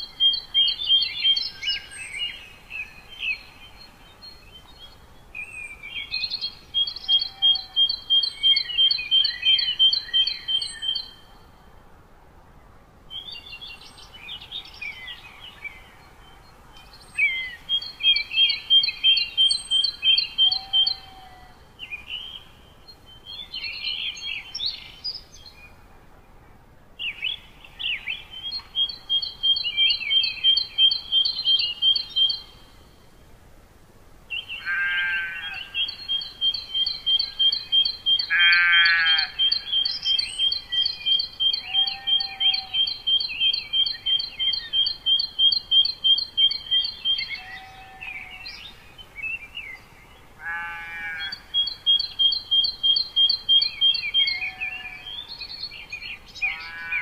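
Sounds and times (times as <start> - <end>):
faint steady hiss: 0.0 - 57.0
songbird singing: 0.0 - 57.0.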